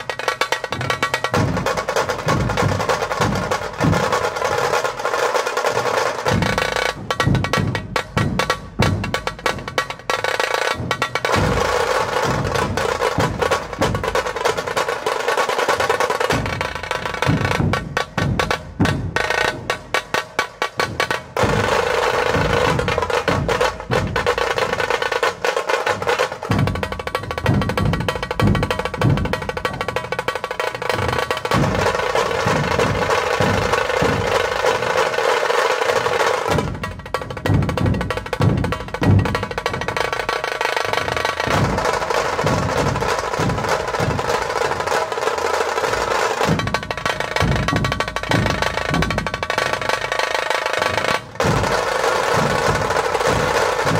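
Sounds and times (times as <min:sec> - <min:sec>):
heavy accented drum strokes: 0:00.0 - 0:53.9
kettle drum rolls: 0:00.0 - 0:53.9.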